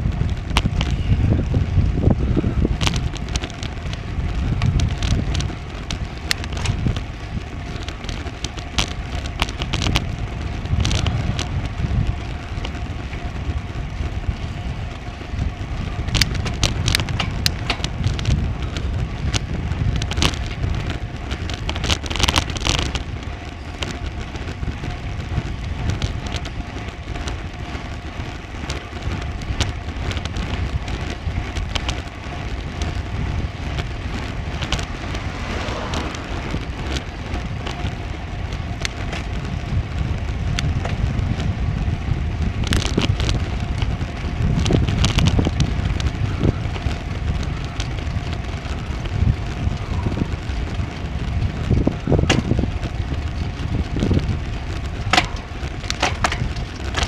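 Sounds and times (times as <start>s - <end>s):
bicycle tyre noise: 0.0s - 57.0s
clicks and crackles: 0.0s - 57.0s
wind on microphone: 0.0s - 57.0s.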